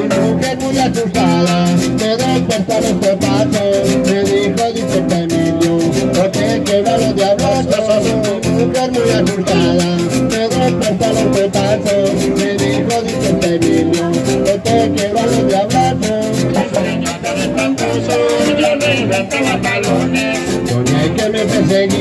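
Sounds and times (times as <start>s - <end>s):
bass line: 0.0s - 22.0s
percussion beat: 0.0s - 22.0s
plucked guitars: 0.0s - 22.0s.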